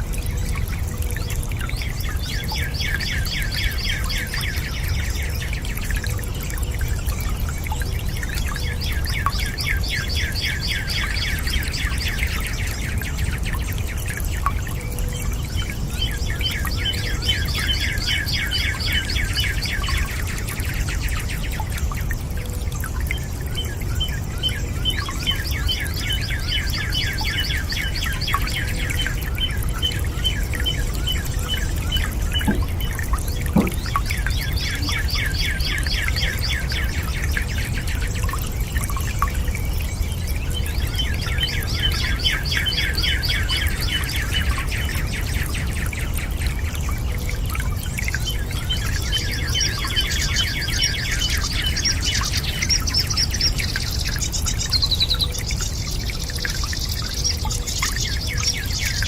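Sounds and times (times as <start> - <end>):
running water: 0.0 - 59.0
birds singing trills: 0.1 - 59.0.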